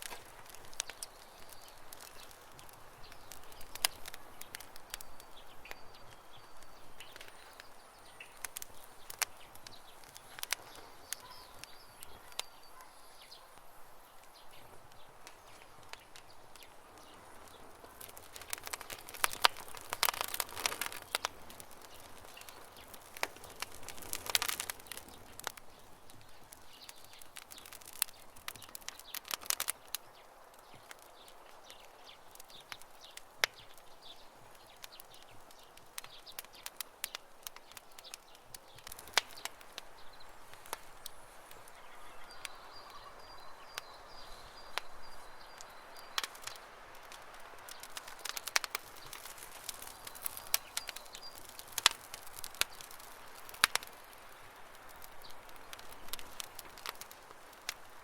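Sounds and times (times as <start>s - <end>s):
fire popping and snapping: 0.0s - 58.0s
wood fire crackling: 0.0s - 58.0s
faint bird chirping: 0.1s - 57.0s.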